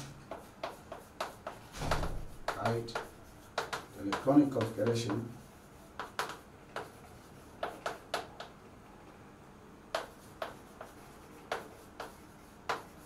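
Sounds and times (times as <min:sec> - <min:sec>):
chalk tapping on blackboard: 0:00.0 - 0:08.6, 0:09.9 - 0:13.0.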